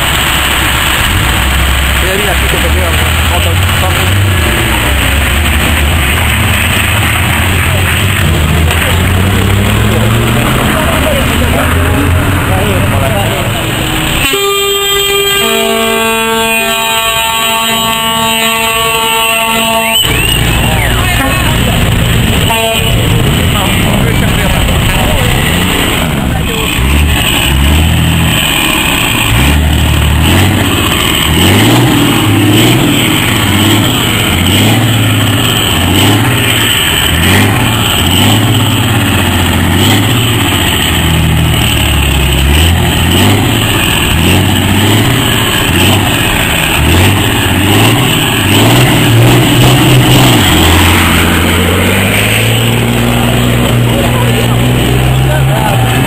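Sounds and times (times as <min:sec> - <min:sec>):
diesel truck engine revving: 0:00.0 - 0:56.0.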